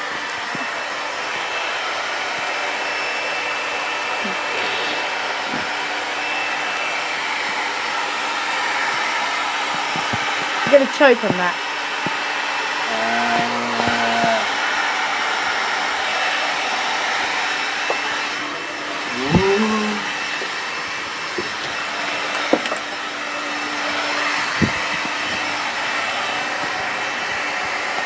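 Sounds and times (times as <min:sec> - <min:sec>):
hair dryer blowing: 0:00.0 - 0:28.0.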